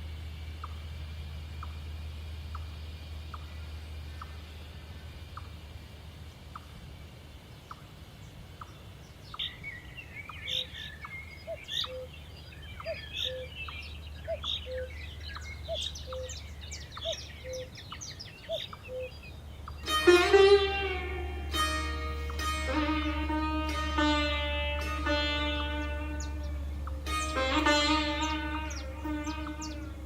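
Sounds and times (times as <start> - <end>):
steady low hum: 0.0 - 30.0
birds chirping: 0.3 - 30.0.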